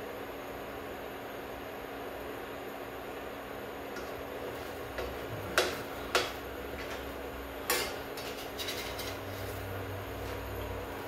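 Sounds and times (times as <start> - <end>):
steady cooking hiss: 0.0 - 11.0.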